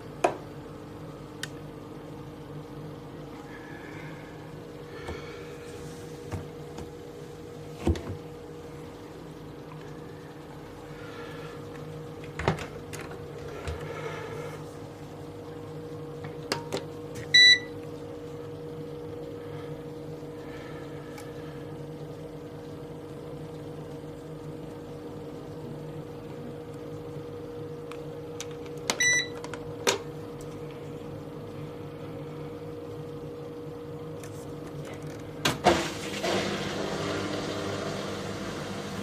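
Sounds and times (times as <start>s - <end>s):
steady low hum: 0.0s - 35.6s.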